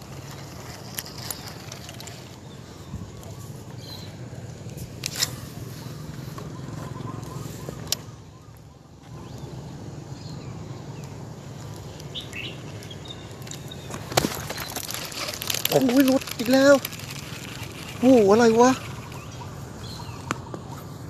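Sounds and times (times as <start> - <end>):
bird chirp: 0.0 - 4.4, 5.1 - 21.0.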